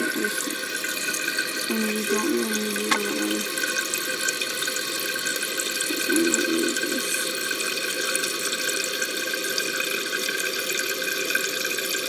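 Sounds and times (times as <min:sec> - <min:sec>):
toilet tank refilling hiss: 0:00.0 - 0:12.0.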